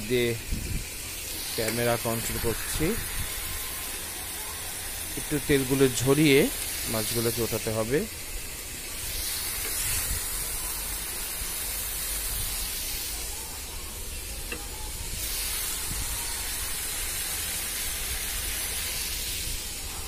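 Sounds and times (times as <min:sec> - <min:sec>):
oil sizzling in a frying pan: 0:00.0 - 0:20.0.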